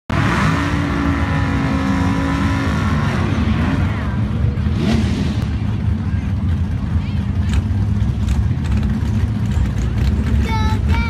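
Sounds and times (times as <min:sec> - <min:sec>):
race car engines revving: 0:00.1 - 0:11.0.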